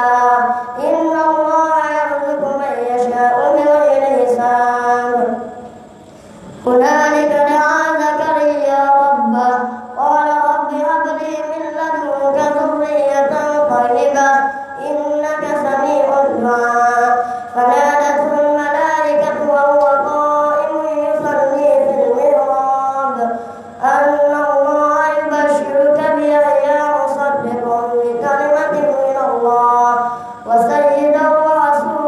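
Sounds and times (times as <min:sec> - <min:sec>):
boy chanting recitation: 0:00.0 - 0:32.0.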